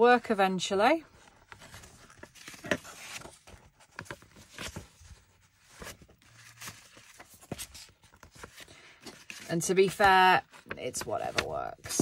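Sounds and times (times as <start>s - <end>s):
paper pages rustling: 1.2s - 12.0s.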